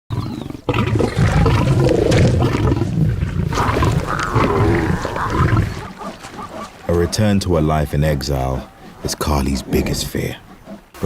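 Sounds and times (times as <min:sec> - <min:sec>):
lions growling and snarling: 0:00.1 - 0:11.0.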